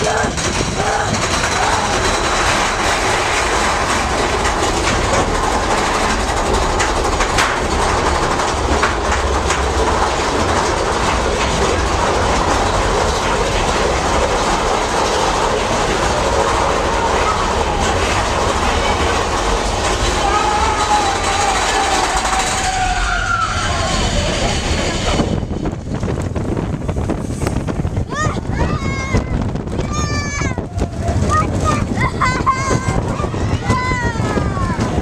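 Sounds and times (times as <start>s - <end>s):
roller coaster cars rattling: 0.0s - 35.0s
sharp track clacks: 0.0s - 35.0s
steady low rumble: 0.0s - 35.0s.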